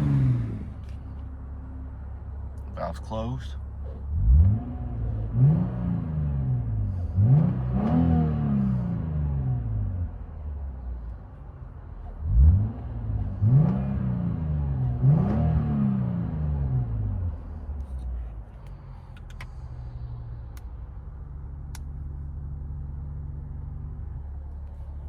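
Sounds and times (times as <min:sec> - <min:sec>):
car engine revving: 0:00.0 - 0:10.3, 0:12.0 - 0:25.0.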